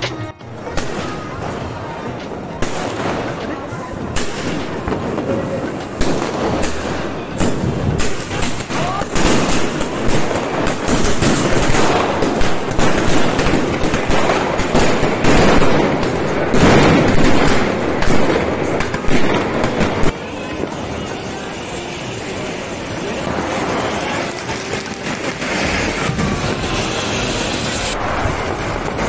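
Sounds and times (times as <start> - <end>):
fountain fireworks crackling hiss: 0.6 - 29.0.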